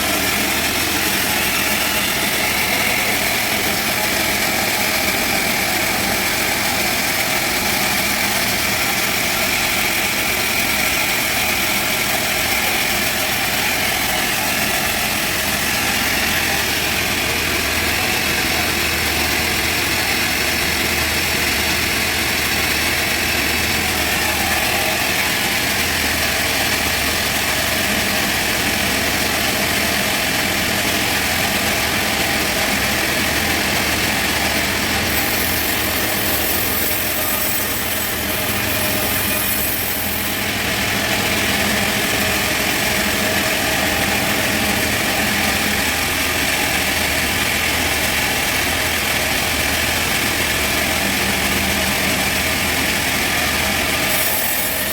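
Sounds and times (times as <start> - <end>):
sawmill sawing log: 0.0 - 54.9.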